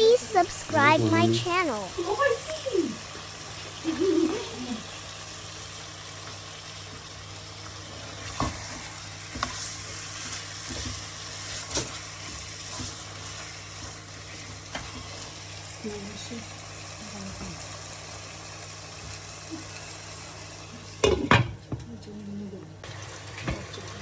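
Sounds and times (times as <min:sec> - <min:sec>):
chicken sizzling in hot oil: 0:00.0 - 0:21.6, 0:22.8 - 0:24.0.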